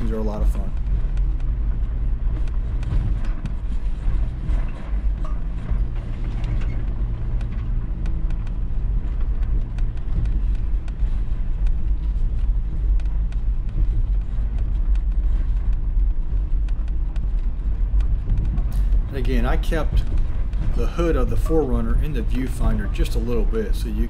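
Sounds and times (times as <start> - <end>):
car engine running low: 0.0 - 24.0
tyres and body knocking: 0.0 - 24.0.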